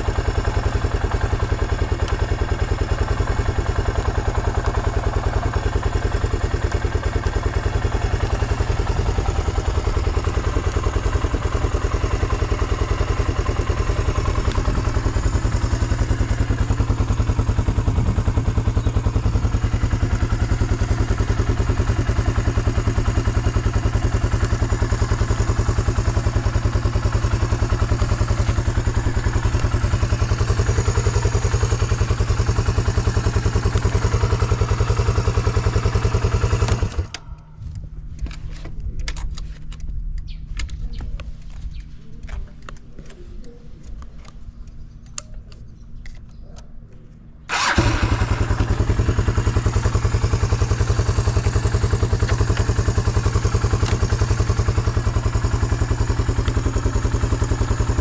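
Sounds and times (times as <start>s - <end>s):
motorcycle engine idling: 0.0s - 38.2s, 40.2s - 58.0s.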